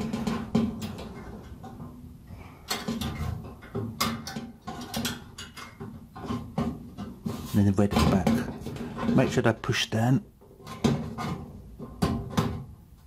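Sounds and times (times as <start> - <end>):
clicks and knocks of wiring work: 0.0 - 2.0, 2.6 - 9.7, 10.4 - 13.0.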